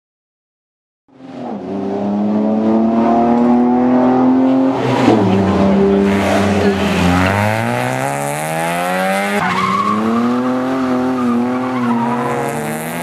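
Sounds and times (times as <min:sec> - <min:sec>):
rally car engine revving: 0:01.2 - 0:13.0.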